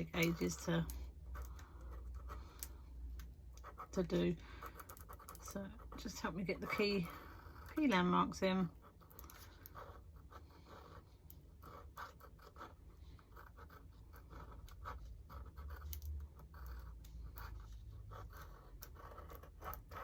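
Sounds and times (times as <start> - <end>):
pencil scratching on tracing paper: 0.0 - 20.0.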